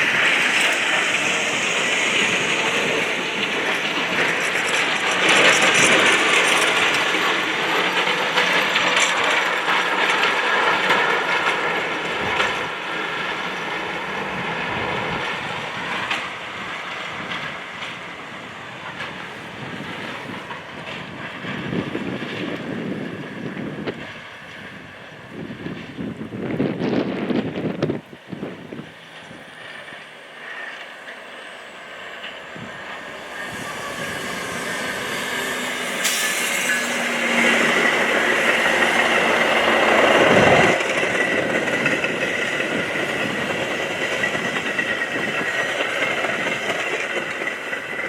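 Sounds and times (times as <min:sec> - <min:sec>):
train wheels clattering on rails: 0:00.0 - 0:48.0.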